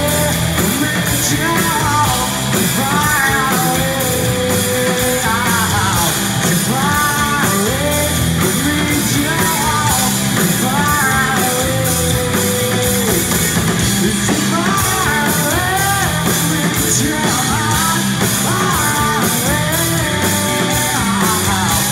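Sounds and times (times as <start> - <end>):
drum beat: 0.0 - 21.9
electric guitars: 0.0 - 21.9
man singing lead: 0.0 - 21.9.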